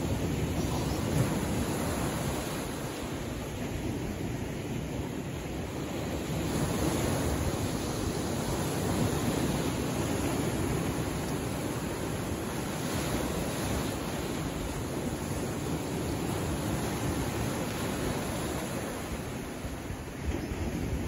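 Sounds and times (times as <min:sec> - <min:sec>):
small waves breaking on rocks: 0:00.0 - 0:21.0.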